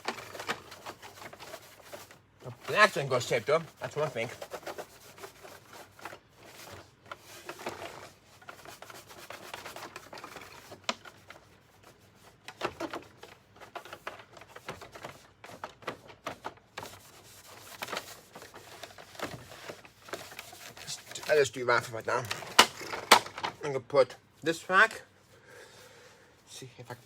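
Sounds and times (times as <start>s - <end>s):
hands rubbing and rustling plastic: 0.0s - 27.0s.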